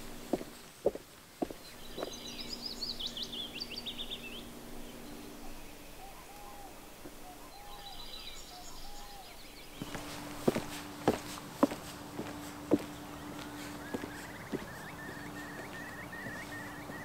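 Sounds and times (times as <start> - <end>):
marsh ambience: 0.0 - 17.0
songbird twittering: 0.1 - 17.0
lower bird call: 1.5 - 17.0.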